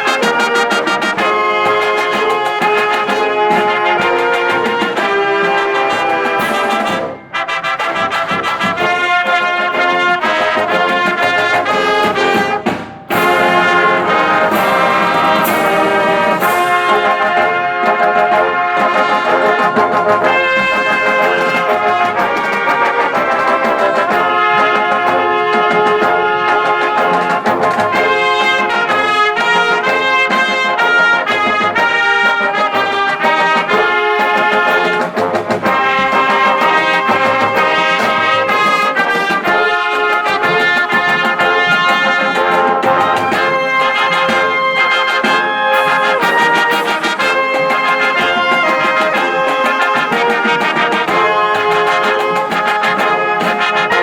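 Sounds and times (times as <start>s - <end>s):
marching band with brass: 0.0s - 54.0s.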